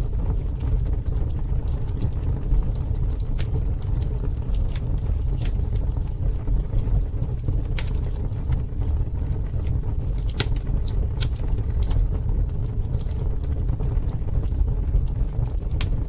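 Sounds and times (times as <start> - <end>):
campfire rumble: 0.0 - 16.0
fire crackles and pops: 0.0 - 16.0.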